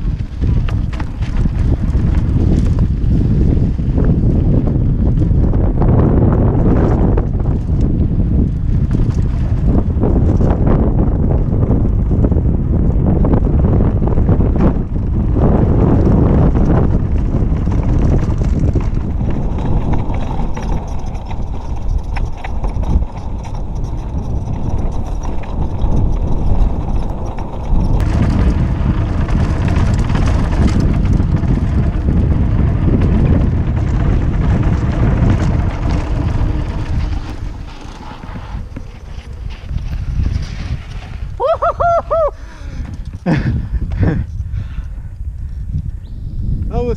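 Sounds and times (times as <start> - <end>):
bike clattering over bumps: 0.0 - 45.2
tyres rumbling on dirt trail: 0.0 - 46.9
wind buffeting microphone: 0.0 - 46.9.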